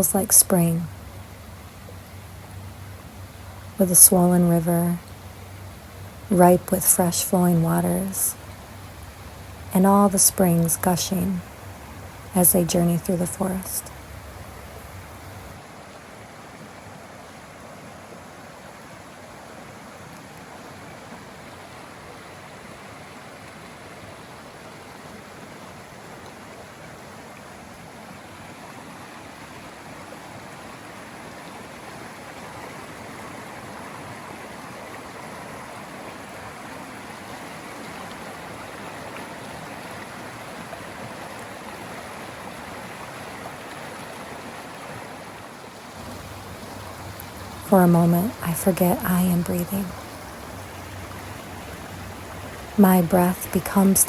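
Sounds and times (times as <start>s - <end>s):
creek rushing over rocks: 0.0s - 54.0s.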